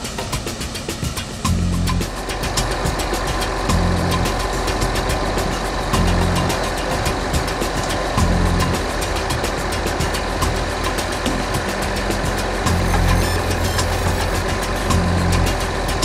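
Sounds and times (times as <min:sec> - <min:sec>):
diesel engine idling: 0:01.4 - 0:16.0.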